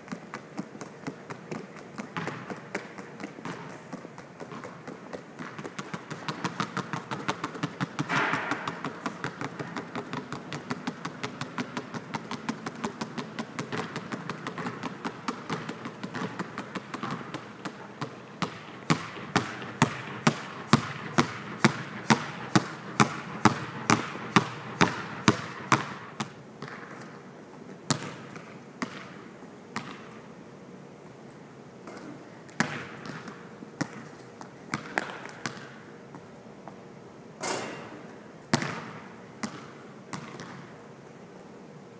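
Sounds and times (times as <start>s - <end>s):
basketball bouncing on court: 0.1s - 27.2s, 27.9s - 30.3s, 31.9s - 36.3s, 37.4s - 40.8s.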